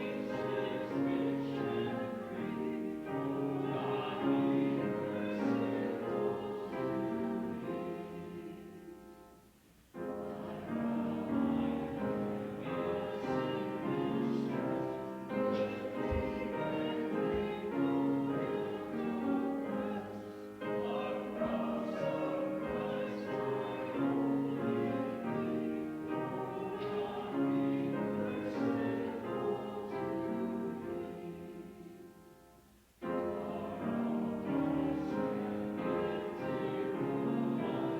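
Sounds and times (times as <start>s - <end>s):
congregation singing a hymn: 0.0s - 37.9s.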